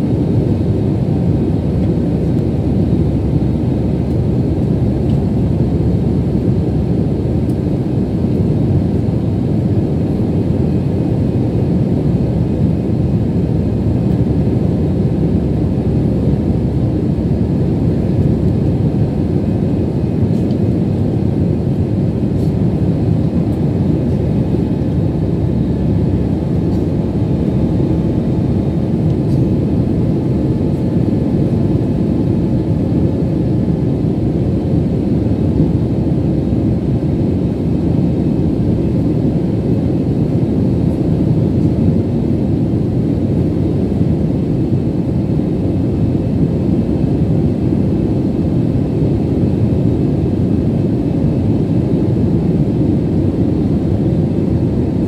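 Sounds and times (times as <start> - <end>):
airliner cabin engine rush: 0.0 - 55.0.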